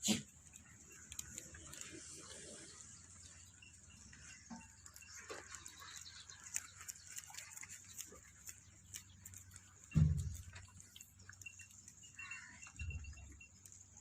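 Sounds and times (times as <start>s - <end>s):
goats moving in a pen: 0.0s - 14.0s
small clicks and rustling: 0.4s - 2.4s, 4.2s - 13.8s.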